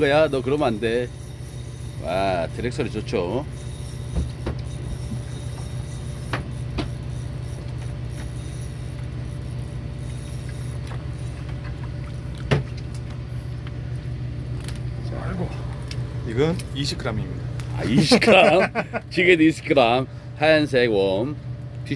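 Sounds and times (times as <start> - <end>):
boat engine humming: 0.0 - 21.4.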